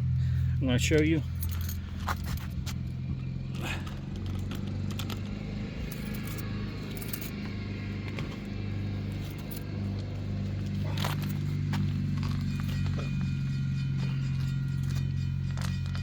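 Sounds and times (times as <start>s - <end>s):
car engine hum: 0.0s - 16.0s
light metallic clinks: 0.4s - 16.0s.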